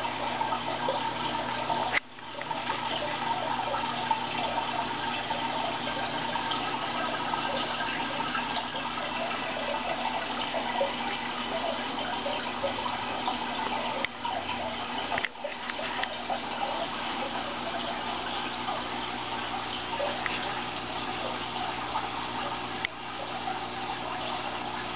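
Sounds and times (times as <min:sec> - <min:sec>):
aquarium water running and splashing: 0:00.0 - 0:24.9.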